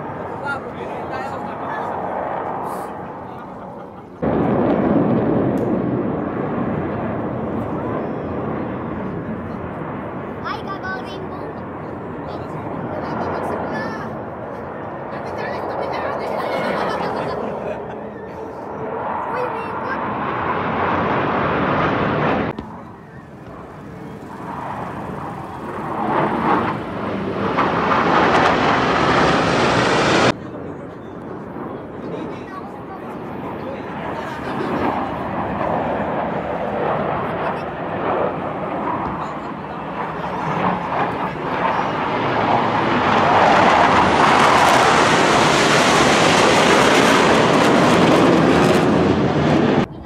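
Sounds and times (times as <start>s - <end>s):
jet engine roar flying past: 0.0s - 50.0s.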